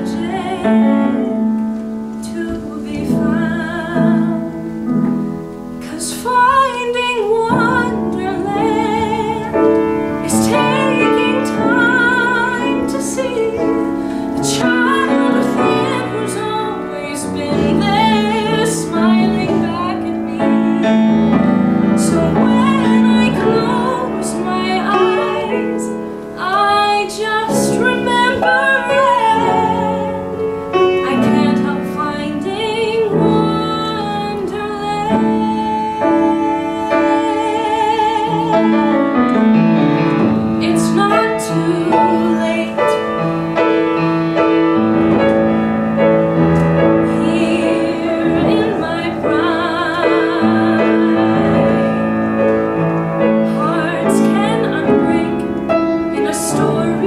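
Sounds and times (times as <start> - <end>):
woman singing a ballad: 0.0 - 43.8, 46.3 - 57.0
piano accompaniment: 0.0 - 57.0.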